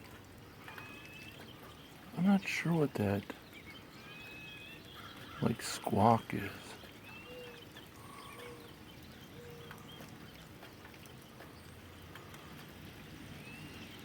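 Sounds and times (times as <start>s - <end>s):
light rain hiss: 0.0s - 14.0s
songbirds chirping faintly: 0.0s - 14.0s.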